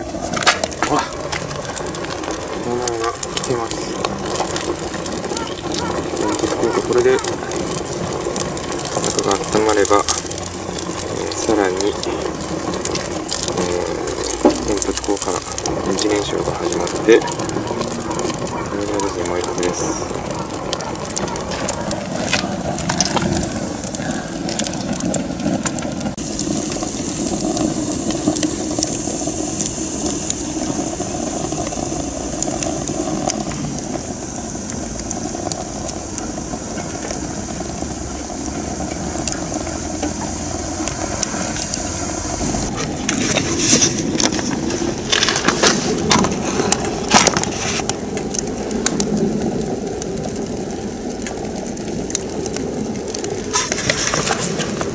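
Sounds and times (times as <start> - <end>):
burning wood crackling and popping: 0.0 - 54.9
stove fire rushing: 0.0 - 54.9.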